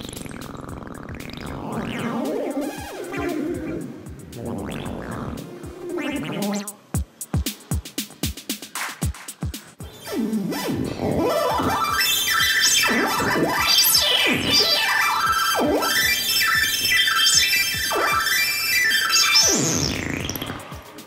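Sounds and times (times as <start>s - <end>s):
harsh noisy synthesizer swooping: 0.0s - 7.2s, 9.8s - 21.0s.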